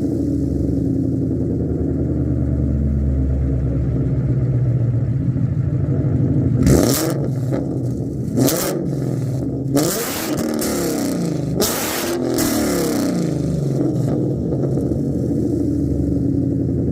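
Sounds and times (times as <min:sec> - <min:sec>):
car engine lumpy idle: 0:00.0 - 0:16.9
car engine revving: 0:00.0 - 0:16.9.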